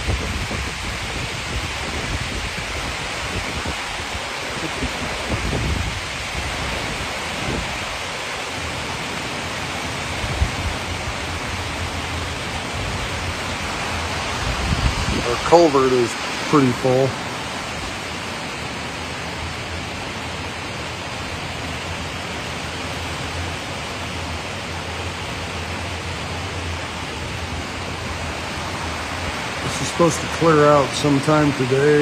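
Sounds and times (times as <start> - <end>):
heavy rain pouring: 0.0 - 32.0
low gusty rumbles: 0.0 - 32.0.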